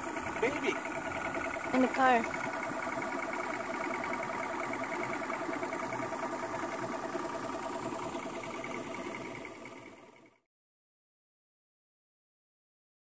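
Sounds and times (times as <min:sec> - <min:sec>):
outboard motor whining: 0:00.0 - 0:10.5.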